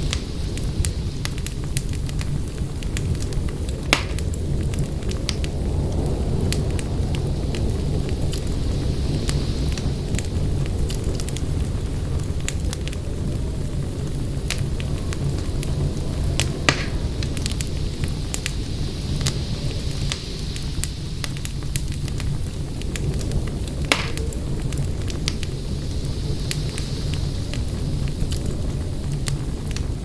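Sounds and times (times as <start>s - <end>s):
fire crackling: 0.0s - 30.0s
fire popping: 0.0s - 30.0s
low rumble of flames: 0.0s - 30.0s.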